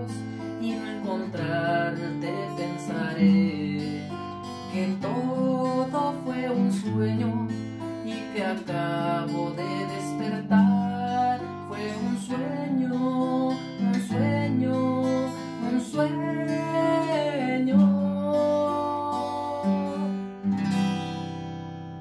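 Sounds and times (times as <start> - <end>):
man singing: 0.0 - 20.4
acoustic guitar strumming: 0.0 - 22.0.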